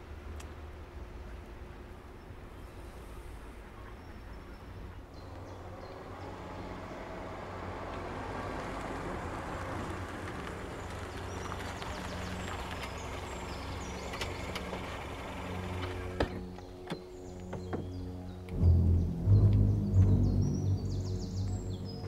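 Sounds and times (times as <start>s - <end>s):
birds chirping: 0.0s - 22.0s
vehicle engine running: 0.0s - 22.0s.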